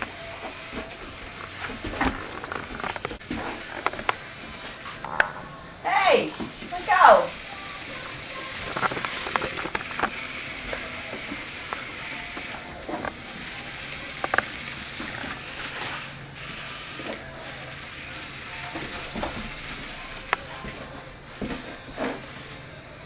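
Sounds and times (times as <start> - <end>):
toy car motor whirring: 0.0 - 5.0, 6.3 - 20.8, 21.4 - 22.6.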